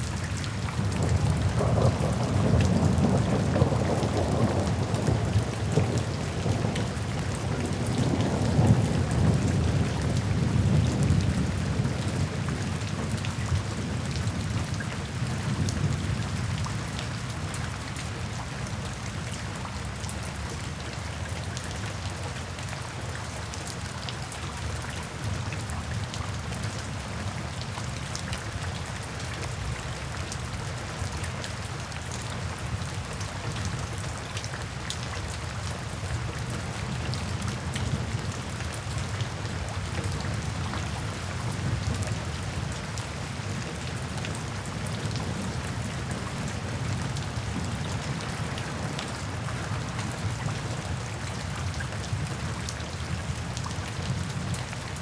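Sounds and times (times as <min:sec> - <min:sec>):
steady rain hiss: 0:00.0 - 0:19.2, 0:24.1 - 0:55.0
raindrops ticking on a surface: 0:00.0 - 0:55.0.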